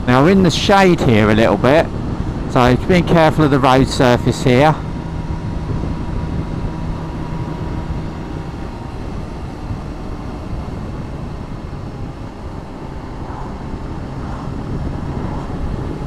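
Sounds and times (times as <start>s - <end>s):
motorcycle engine running: 0.0s - 16.0s
wind and road rush: 0.0s - 16.0s.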